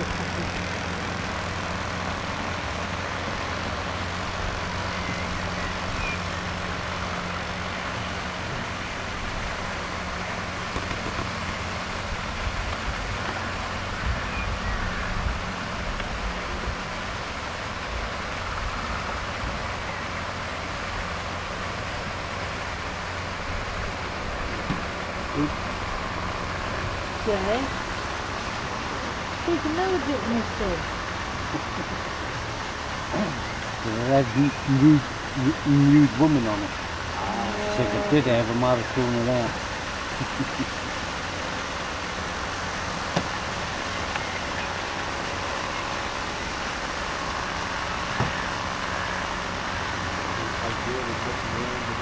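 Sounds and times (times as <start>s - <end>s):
low motor hum: 0.0s - 52.0s
outdoor hiss: 0.0s - 52.0s.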